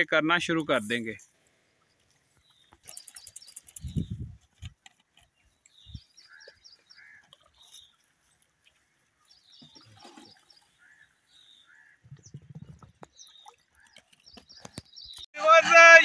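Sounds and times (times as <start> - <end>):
small birds chirping: 1.6 - 15.3.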